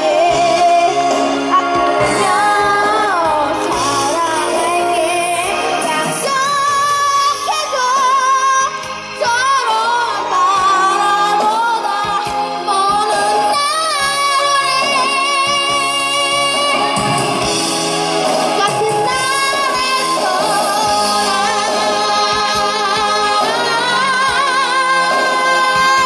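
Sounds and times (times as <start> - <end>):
child singing into a microphone: 0.0 - 17.0, 18.6 - 26.0
pop backing track: 0.0 - 26.0.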